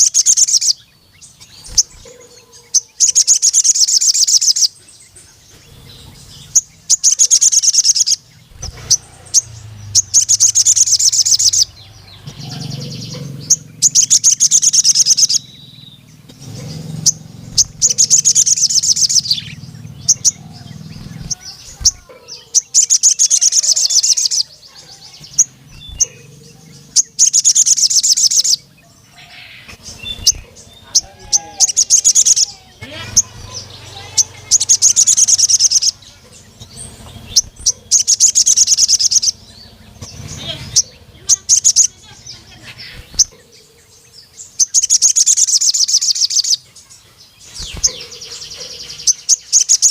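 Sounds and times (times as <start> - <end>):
bird chattering trills: 0.0 - 49.9
bird sharp chirps: 0.0 - 49.9.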